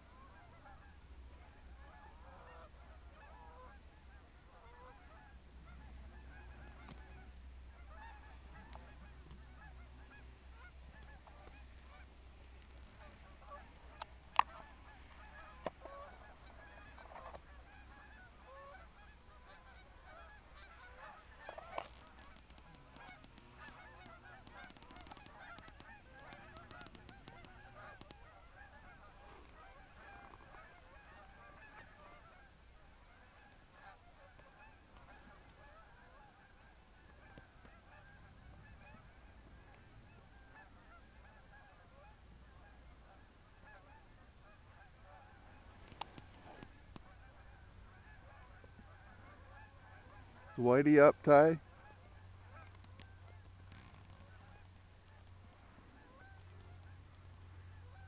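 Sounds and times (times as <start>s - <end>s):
snow geese honking: 0.0s - 58.0s.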